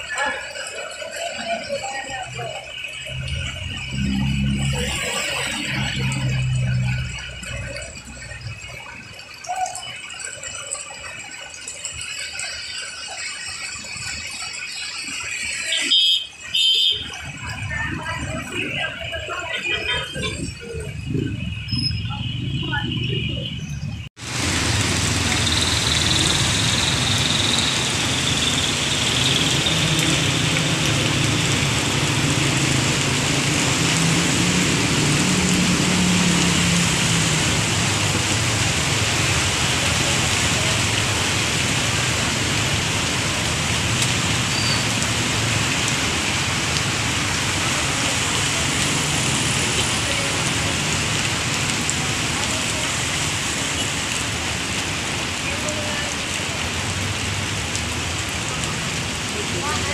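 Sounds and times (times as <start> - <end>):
heavy rain pouring: 0.0 - 59.9
vehicles hissing through water: 0.0 - 59.9.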